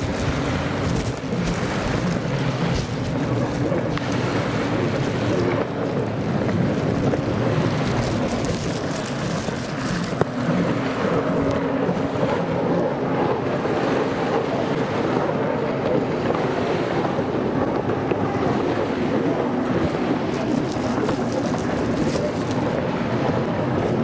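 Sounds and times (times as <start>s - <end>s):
jet ski engines running: 0.0s - 24.0s
waves washing: 0.0s - 24.0s
wind buffeting microphone: 0.0s - 24.0s.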